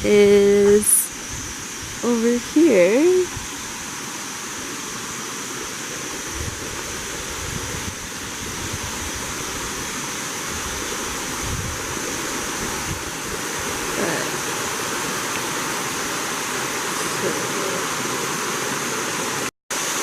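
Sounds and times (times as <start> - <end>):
water cascading over rock: 0.0 - 20.0.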